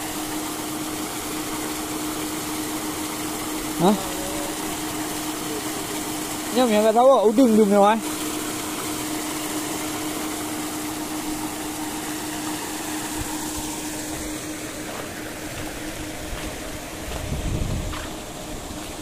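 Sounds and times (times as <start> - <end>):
churning water hiss: 0.0 - 19.0
mechanical hum: 0.0 - 19.0.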